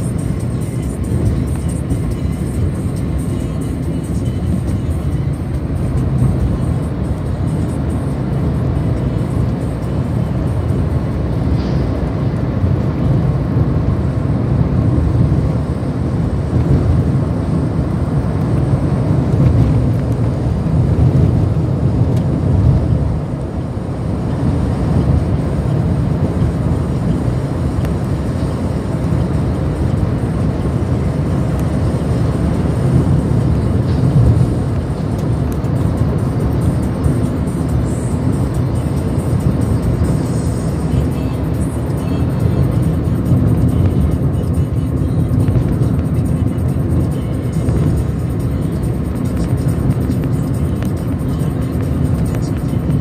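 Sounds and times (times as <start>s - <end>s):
car road and wind noise: 0.0s - 53.0s
traffic passing: 0.0s - 53.0s.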